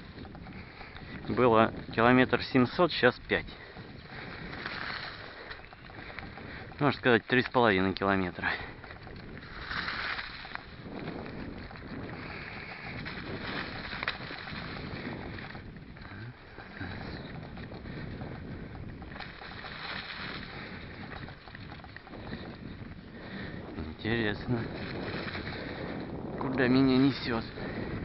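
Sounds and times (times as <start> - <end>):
bike tyre and frame rattle: 0.0 - 28.0
wind on microphone: 0.0 - 28.0.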